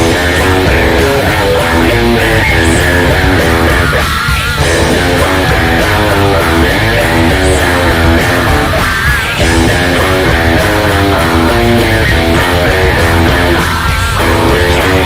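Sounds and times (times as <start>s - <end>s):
electric guitar rock riff: 0.0s - 15.0s
heavy bass line: 0.0s - 15.0s.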